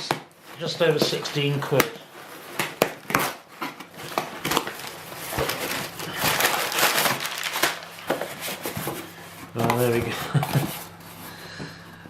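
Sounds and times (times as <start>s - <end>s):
packaging crinkling and rustling: 0.0s - 11.3s.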